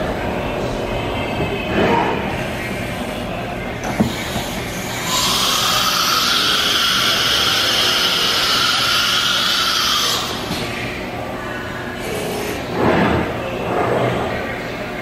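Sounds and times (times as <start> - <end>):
industrial machinery running: 0.0 - 15.0.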